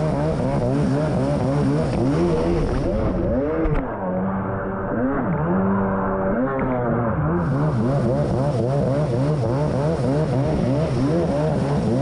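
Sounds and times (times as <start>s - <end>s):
jet ski engine revving: 0.0s - 12.0s.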